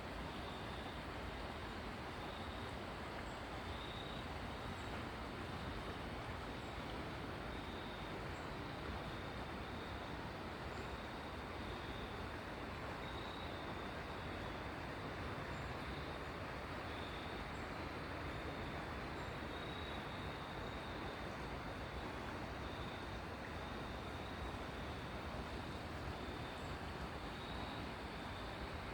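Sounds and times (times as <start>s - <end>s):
river water over rocks: 0.0s - 28.9s.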